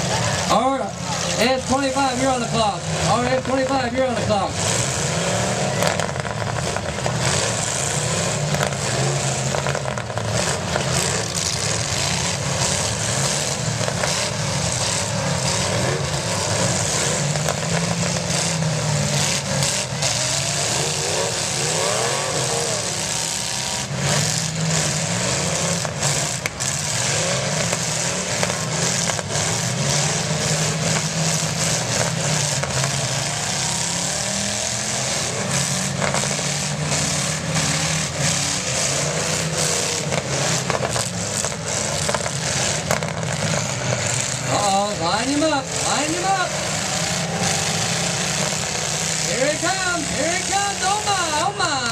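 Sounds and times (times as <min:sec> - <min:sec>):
car engines revving: 0:00.0 - 0:51.9
cars hitting knocks: 0:01.3 - 0:34.1, 0:35.0 - 0:50.7.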